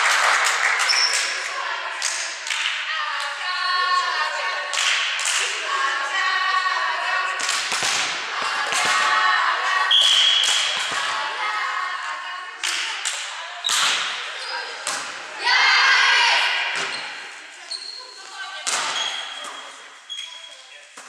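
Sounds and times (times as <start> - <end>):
girls calling and chanting: 0.8 - 20.1.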